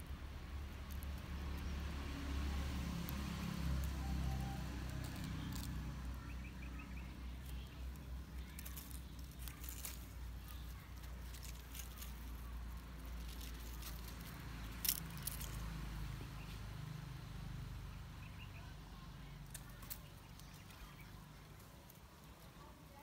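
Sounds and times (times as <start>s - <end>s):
kitten rustling dry leaves: 0.0s - 17.3s, 18.4s - 23.0s.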